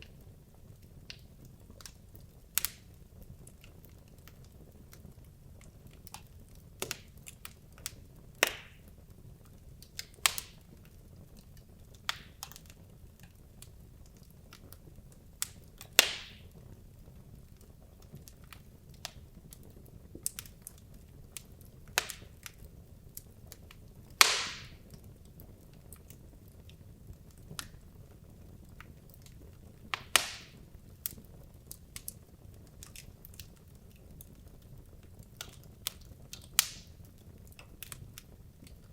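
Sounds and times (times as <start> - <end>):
logs burning in a fireplace: 0.0 - 38.9.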